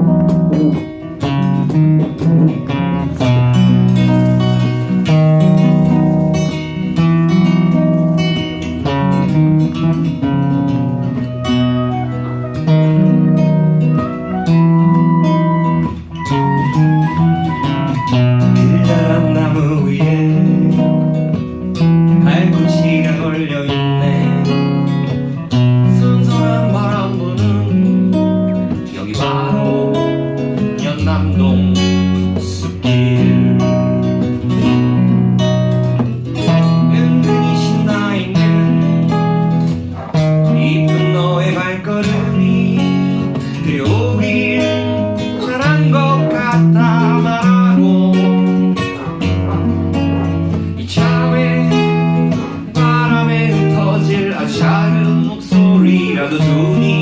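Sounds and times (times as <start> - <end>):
acoustic guitar music: 0.0 - 57.0.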